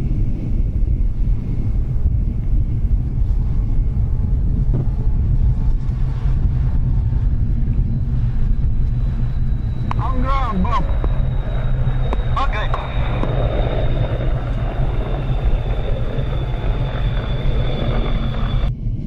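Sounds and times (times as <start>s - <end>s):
fighter jet engines rumbling: 0.0s - 19.0s.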